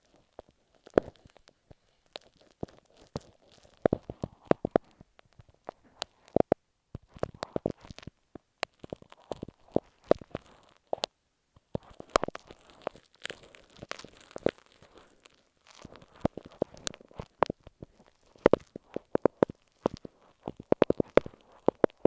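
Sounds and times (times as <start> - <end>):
tape crackling and scratching: 0.0 - 22.0.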